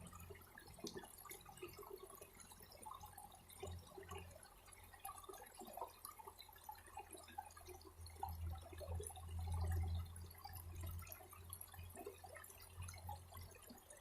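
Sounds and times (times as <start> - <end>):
low steady hum: 0.0 - 14.0
water trickling and dripping: 0.0 - 14.0.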